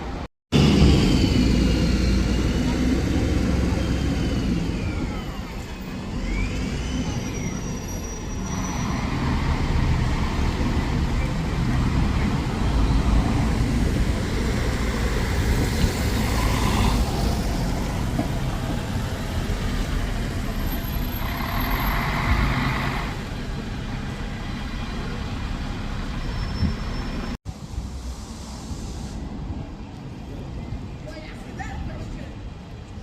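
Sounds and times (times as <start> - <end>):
heavy vehicles passing: 0.0 - 7.6, 8.3 - 28.2
heavy vehicle engine rumble: 0.0 - 31.0.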